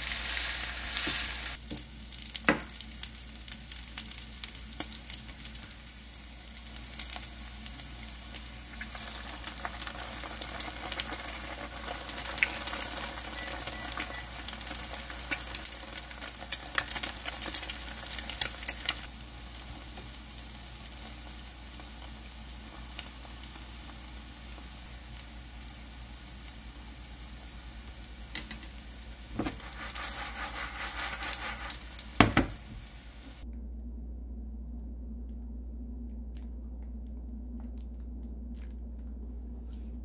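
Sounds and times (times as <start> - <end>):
pancake sizzling and crackling: 0.0 - 33.4.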